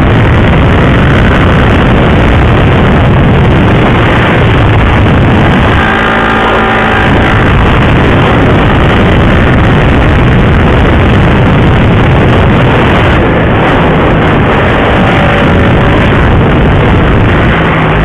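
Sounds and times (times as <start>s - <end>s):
motorcycle engine: 0.0s - 18.0s
wind rushing: 0.0s - 18.0s.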